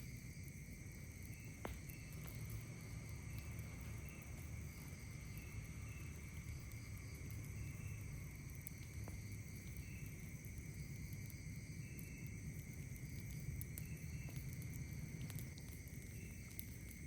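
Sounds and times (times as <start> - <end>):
crickets trilling: 0.0 - 17.0
short insect chirp: 0.0 - 17.0.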